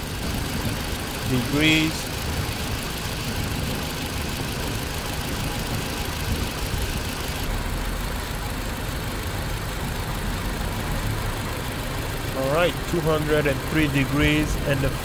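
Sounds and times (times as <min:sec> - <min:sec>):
car engine idling: 0:00.0 - 0:15.0
radiator fans rushing: 0:00.0 - 0:15.0.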